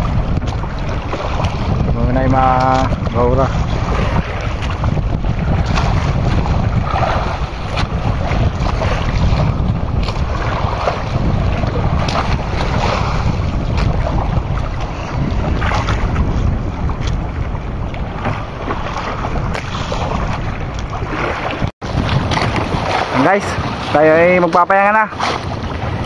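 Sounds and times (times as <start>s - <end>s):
water splashing against boat: 0.0s - 26.0s
wind buffeting microphone: 0.0s - 26.0s.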